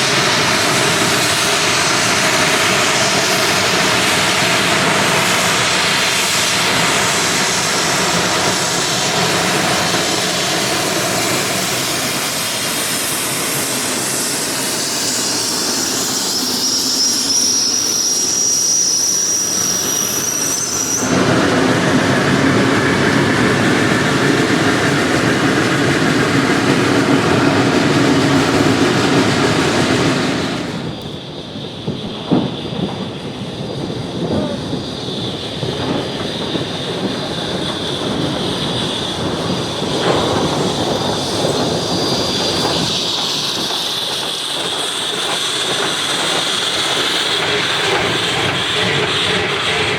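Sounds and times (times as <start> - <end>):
high wheel squeal: 0.0 - 49.9
steam locomotive chuffing and hissing: 0.0 - 49.9.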